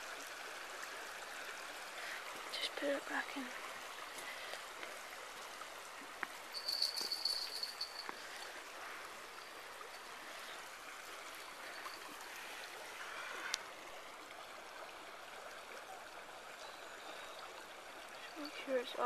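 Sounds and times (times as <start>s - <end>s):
river water running: 0.0s - 19.0s.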